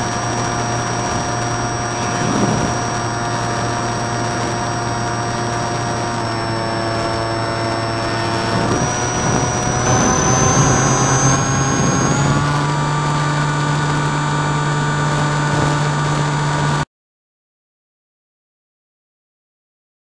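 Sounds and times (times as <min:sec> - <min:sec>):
aircraft engine and propeller: 0:00.0 - 0:16.8.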